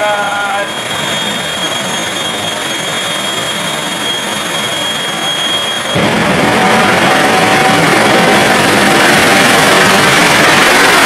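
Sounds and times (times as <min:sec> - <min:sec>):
jet engine whine and roar: 0:00.0 - 0:11.0.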